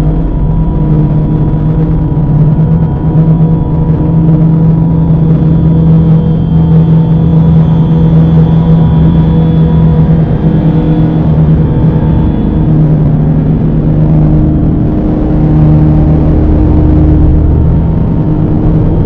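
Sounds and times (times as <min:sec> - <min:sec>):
dark ambient drone music: 0:00.0 - 0:19.0.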